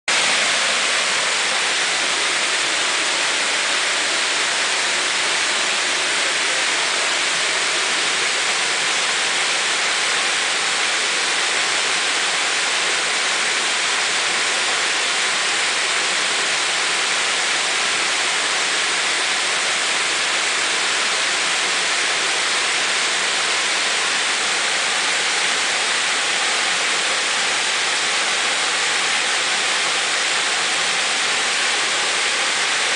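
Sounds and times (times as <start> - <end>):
waterfall splashing into pool: 0.1 - 32.9.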